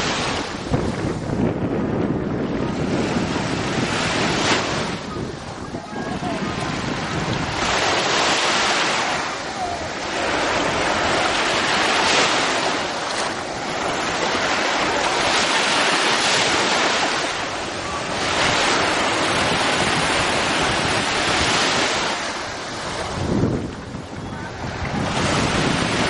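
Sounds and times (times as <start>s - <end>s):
small waves washing over sand: 0.0s - 26.0s.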